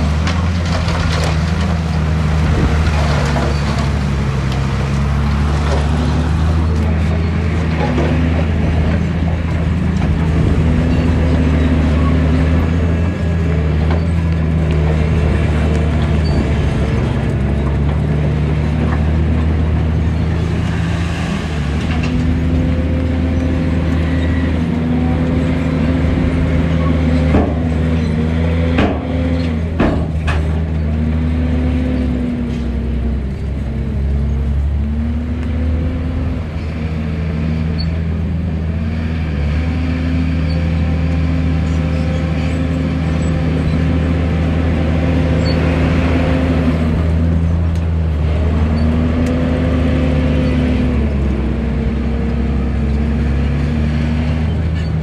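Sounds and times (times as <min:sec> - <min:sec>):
heavy machinery engine under load: 0:00.0 - 0:55.0.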